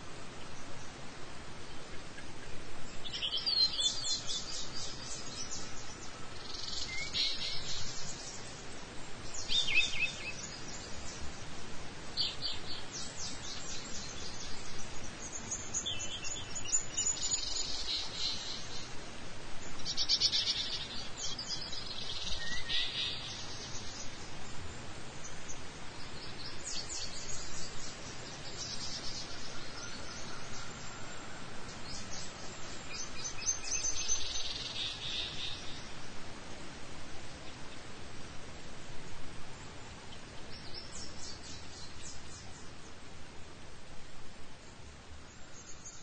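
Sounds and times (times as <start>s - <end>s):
steady background hiss: 0.0s - 46.0s
small birds chirping: 0.2s - 43.1s.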